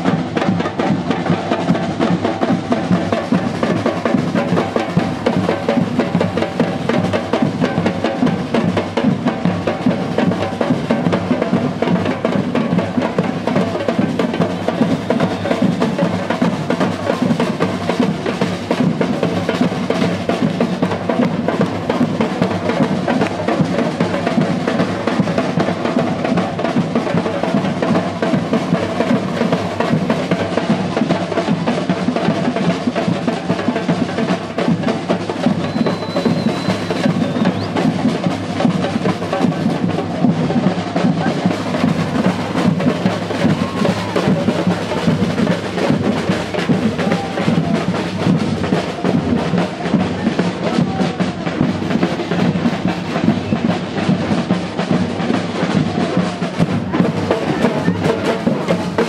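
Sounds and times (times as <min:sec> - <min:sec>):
percussion band drumming: 0:00.0 - 0:59.0.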